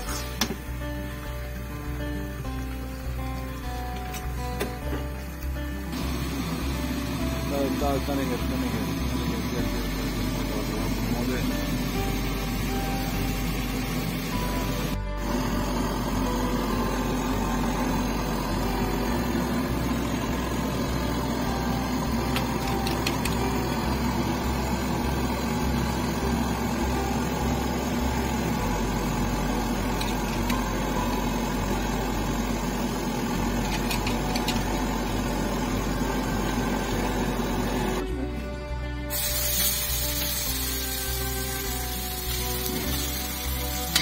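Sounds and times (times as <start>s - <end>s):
gas burners humming: 0.0s - 44.0s.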